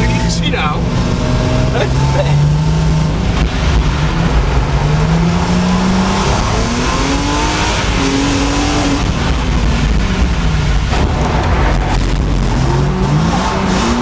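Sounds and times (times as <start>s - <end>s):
car engine revving: 0.0s - 14.0s
road and tyre noise: 0.0s - 14.0s.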